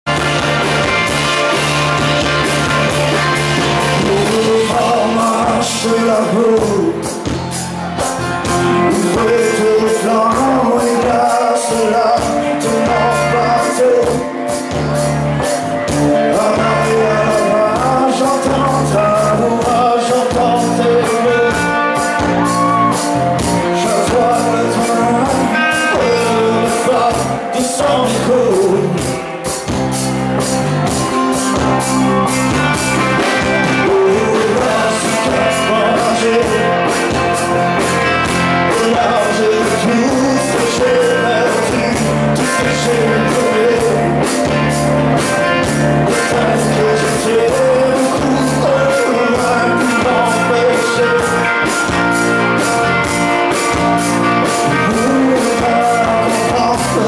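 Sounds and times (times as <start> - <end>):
guitars: 0.0 - 57.0.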